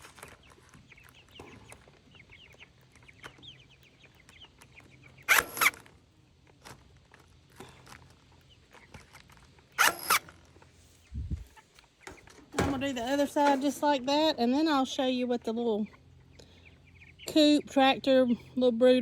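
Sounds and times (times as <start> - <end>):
chickens clucking: 0.0 - 18.6.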